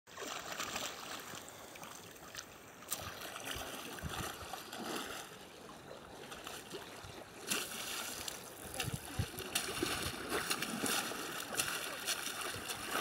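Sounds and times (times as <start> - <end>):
small splashes: 0.1 - 5.4, 6.2 - 13.0
seawater sloshing around legs: 0.1 - 13.0.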